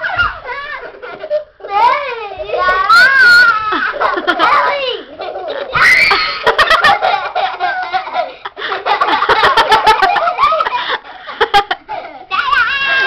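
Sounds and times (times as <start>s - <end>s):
children laughing: 0.0s - 13.0s.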